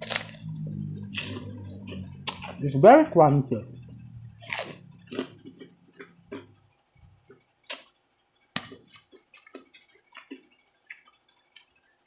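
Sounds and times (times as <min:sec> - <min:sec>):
person chewing crunchy food: 0:00.0 - 0:02.8, 0:03.8 - 0:08.0, 0:08.6 - 0:12.0.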